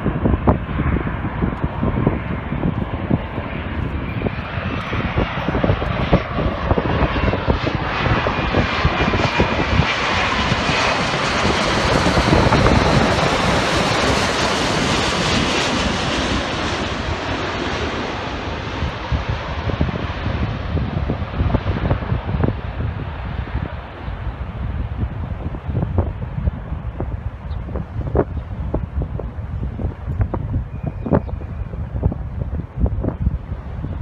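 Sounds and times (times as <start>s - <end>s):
jet airliner roar overhead: 0.0s - 34.0s
jet engine whine: 0.0s - 34.0s.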